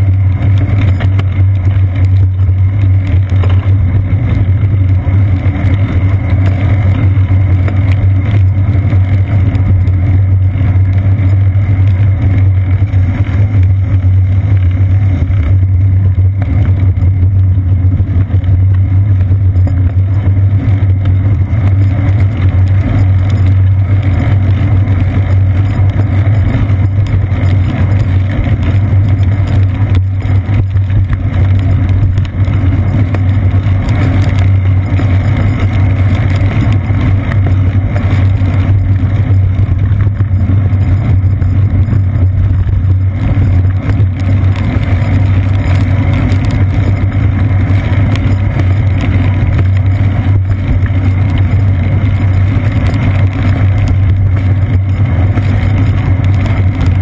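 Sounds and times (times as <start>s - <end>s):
bicycle riding on wet pavement: 0.0s - 57.0s.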